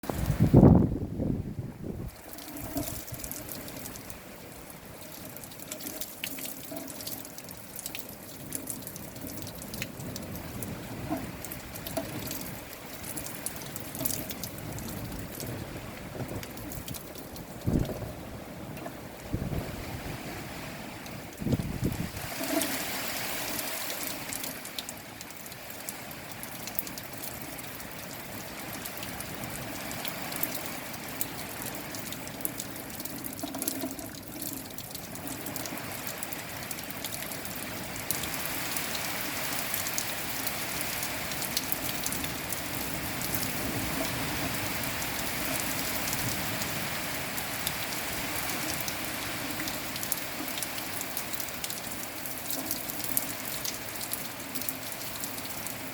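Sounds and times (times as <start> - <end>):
raindrops striking close by: 0.0 - 55.9
steady rain: 0.0 - 55.9.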